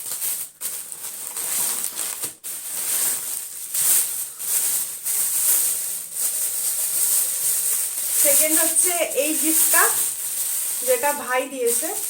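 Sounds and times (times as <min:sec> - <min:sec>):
gift packaging rustling: 0:00.0 - 0:12.0.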